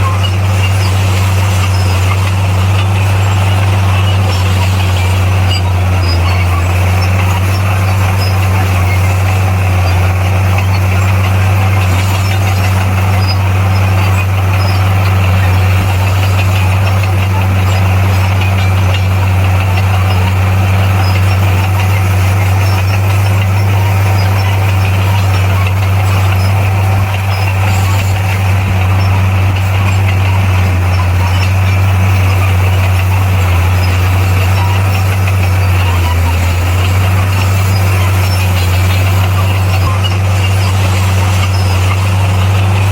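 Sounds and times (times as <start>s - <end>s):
bulldozer diesel engine droning: 0.0s - 42.9s.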